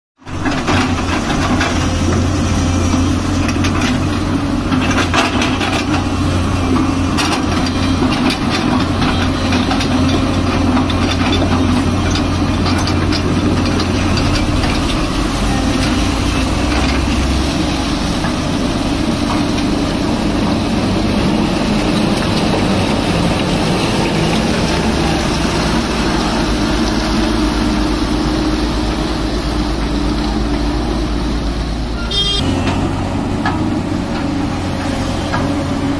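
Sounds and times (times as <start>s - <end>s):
excavator diesel engine running: 0.2s - 35.9s.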